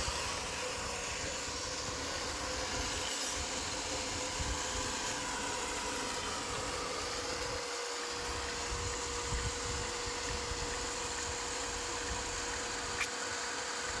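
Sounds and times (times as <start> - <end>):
pump motor whirring: 0.0 - 14.0.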